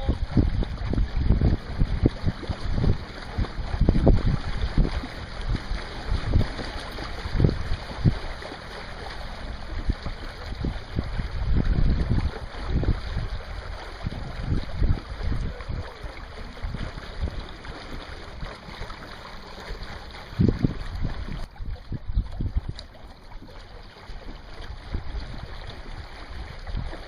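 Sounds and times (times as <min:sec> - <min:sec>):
rushing wind and water: 0:00.0 - 0:27.0
wind buffeting microphone: 0:00.0 - 0:27.0.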